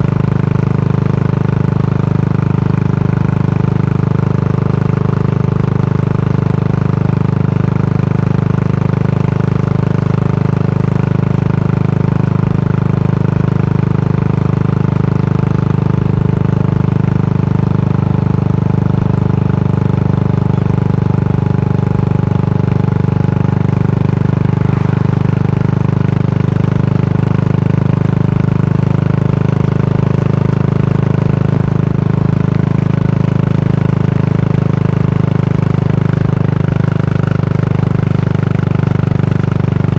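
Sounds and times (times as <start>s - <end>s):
single-cylinder engine thumping: 0.0s - 39.9s.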